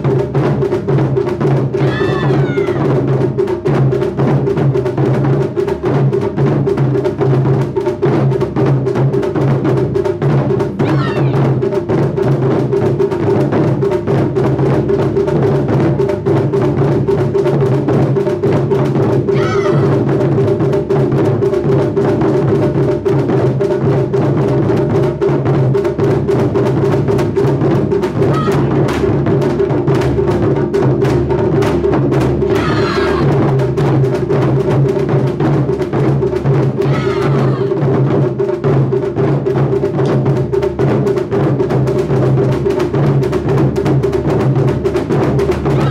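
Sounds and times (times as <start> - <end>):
deep drum resonance: 0.0 - 45.9
taiko drums beaten hard: 0.0 - 45.9.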